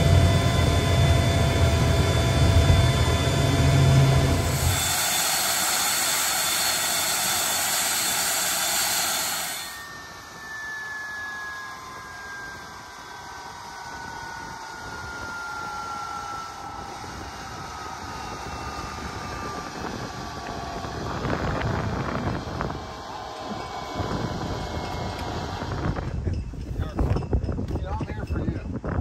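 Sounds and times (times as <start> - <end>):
jet engine rushing: 0.0 - 27.0
turbine whine falling in pitch: 0.0 - 29.0.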